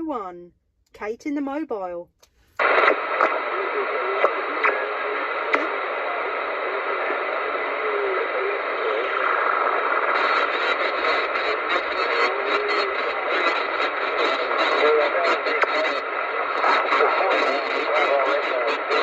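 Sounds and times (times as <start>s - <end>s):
crackly static clicks: 2.2s - 19.0s
radio static hissing: 2.5s - 19.0s.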